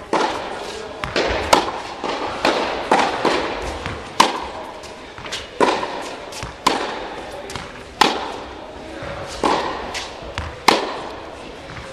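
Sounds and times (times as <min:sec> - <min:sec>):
tennis ball hits and bounces: 0:00.0 - 0:11.9.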